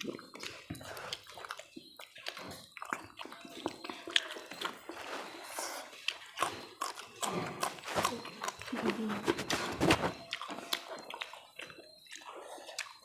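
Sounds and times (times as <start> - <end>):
chewing and mouth sounds: 0.0 - 13.0.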